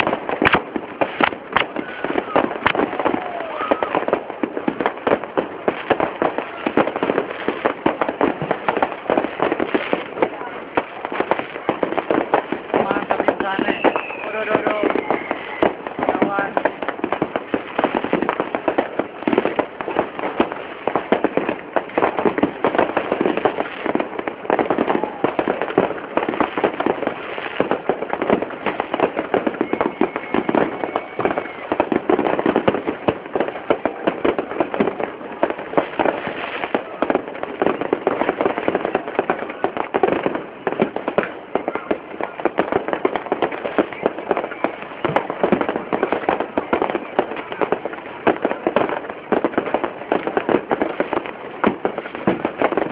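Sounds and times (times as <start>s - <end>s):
fireworks banging and crackling: 0.0s - 52.9s.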